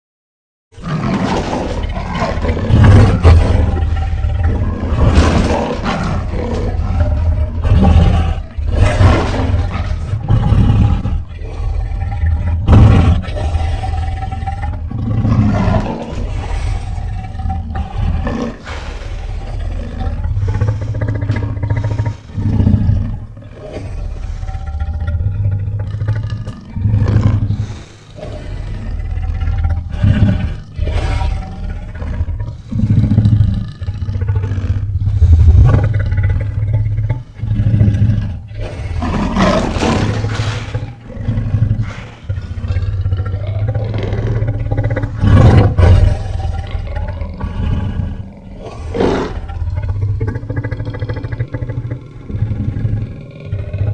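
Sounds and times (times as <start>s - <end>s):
monster roaring and growling: 0.8s - 53.9s.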